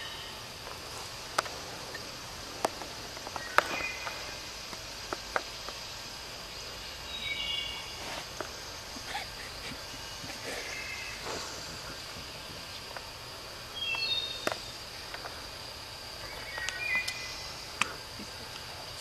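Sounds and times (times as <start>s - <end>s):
insects hissing: 0.0s - 19.0s
sharp ticks and snaps: 0.5s - 19.0s.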